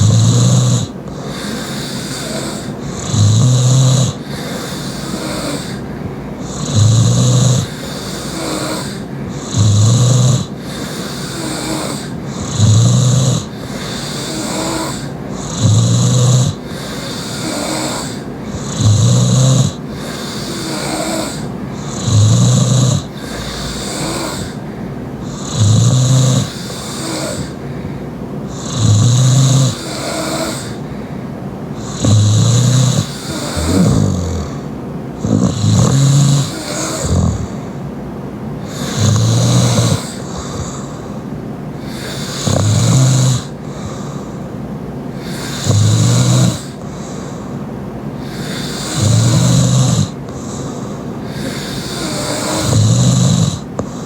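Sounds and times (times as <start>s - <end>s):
loud snoring: 0.0s - 37.9s, 38.6s - 44.5s, 45.1s - 47.4s, 48.2s - 54.0s.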